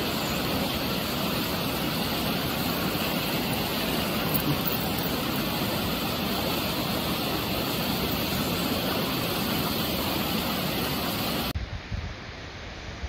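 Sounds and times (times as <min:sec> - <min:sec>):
rushing stream: 0:00.0 - 0:13.0.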